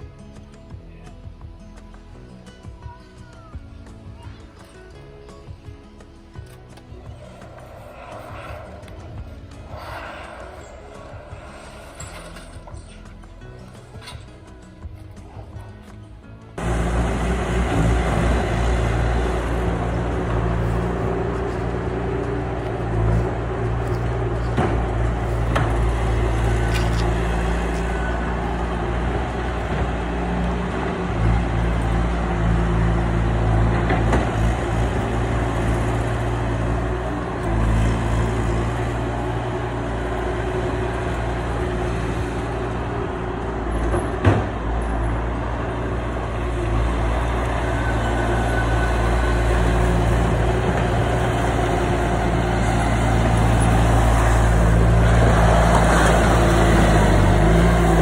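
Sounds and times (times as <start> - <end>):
large engine running: 1.4 - 58.0.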